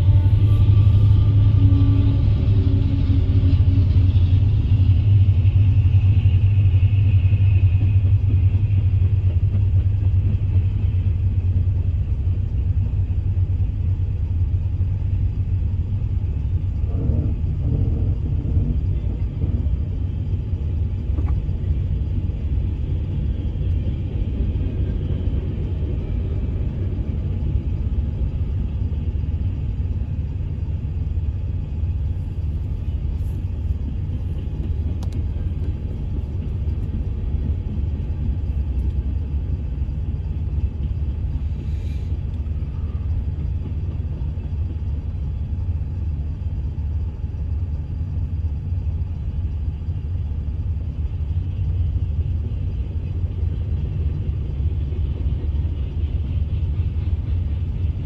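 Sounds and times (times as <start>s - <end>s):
diesel locomotive engines: 0.0s - 58.0s
rumble of freight cars passing: 0.0s - 58.0s.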